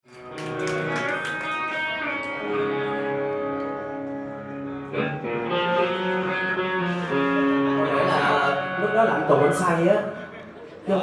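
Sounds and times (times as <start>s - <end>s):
rock band playing live: 0.1s - 10.6s
electric guitar held notes: 0.2s - 10.4s.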